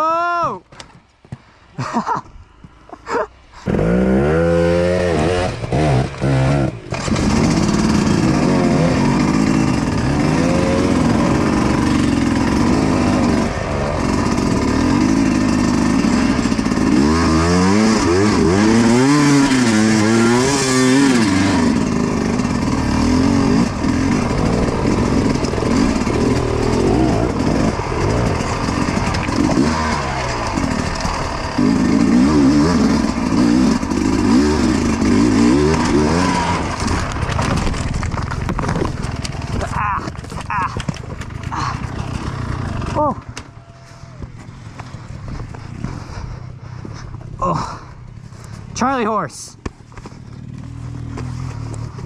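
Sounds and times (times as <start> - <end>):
dirt bike engine revving: 3.6 - 46.7.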